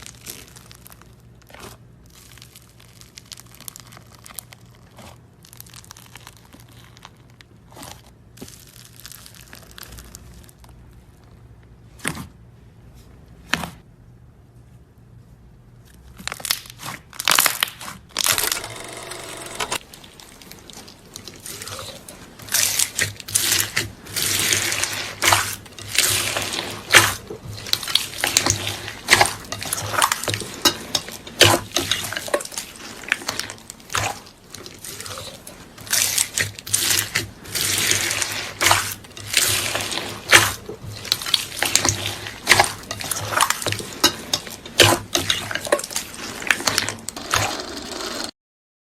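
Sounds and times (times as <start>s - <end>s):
slime crackling and squelching: 0.0s - 12.4s, 19.8s - 47.4s.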